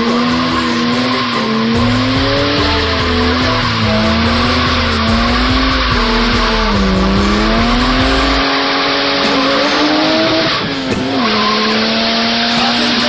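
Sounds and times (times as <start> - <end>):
car engine running hard: 0.0 - 13.0
tyres squealing: 0.0 - 13.0.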